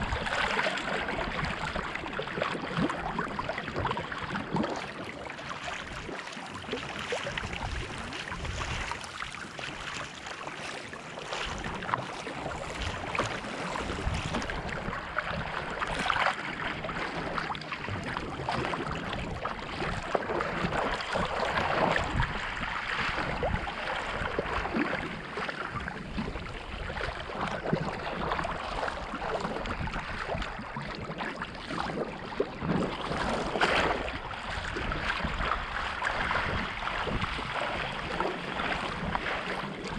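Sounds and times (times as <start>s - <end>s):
wind on microphone: 0.0s - 9.8s, 11.2s - 39.9s
paddle strokes splashing water: 0.0s - 39.9s
water washing along hull: 0.0s - 39.9s.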